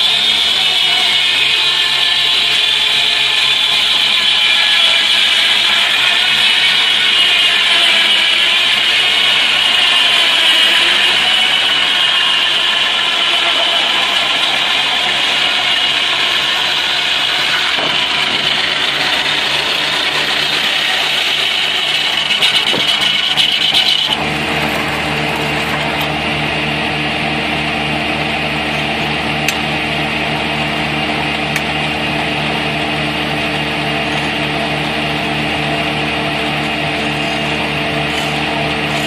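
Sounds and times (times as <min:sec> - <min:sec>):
sawmill machinery running: 0:00.0 - 0:39.0.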